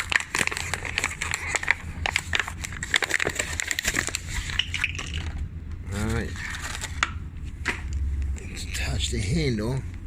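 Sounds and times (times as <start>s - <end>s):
hands rustling and crinkling: 0.0s - 8.3s
steady low hum: 0.0s - 10.0s.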